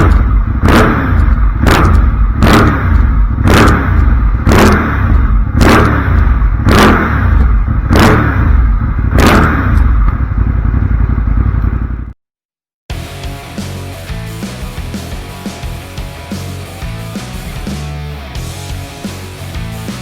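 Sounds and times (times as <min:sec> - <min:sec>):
motorcycle engine revving: 0:00.0 - 0:12.2, 0:12.9 - 0:20.0.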